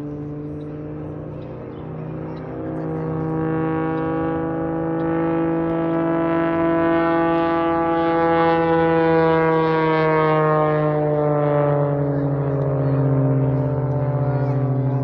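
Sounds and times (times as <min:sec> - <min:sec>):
plane engine drone: 0:00.0 - 0:15.0.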